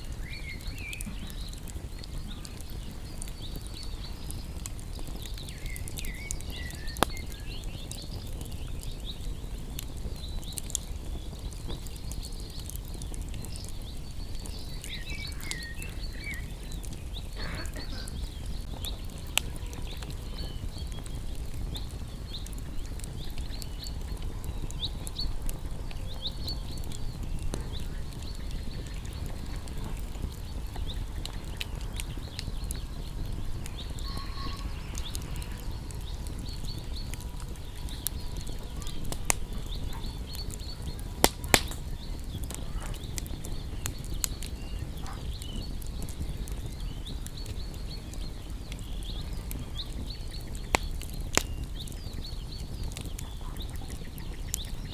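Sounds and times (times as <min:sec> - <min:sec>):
fire pops and snaps: 0:00.0 - 0:54.9
small birds chirping: 0:00.0 - 0:54.9
wood fire crackling: 0:00.0 - 0:54.9.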